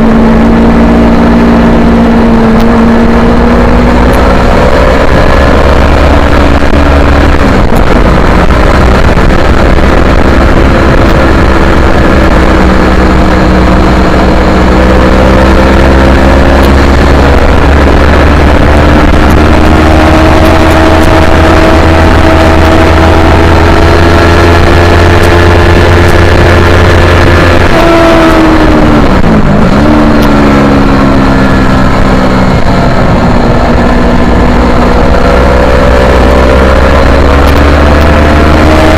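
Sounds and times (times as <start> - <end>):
motorcycle engine running hard: 0.0 - 38.9.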